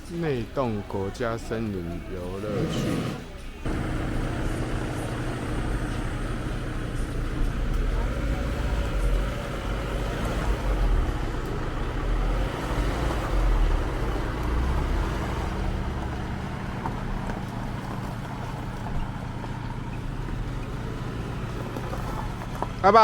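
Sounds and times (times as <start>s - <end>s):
car engine and road rumble: 2.0s - 23.0s.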